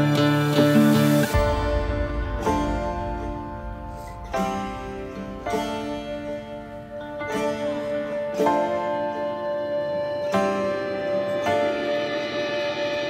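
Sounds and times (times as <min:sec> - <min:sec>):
plucked string chords: 0:00.0 - 0:13.0.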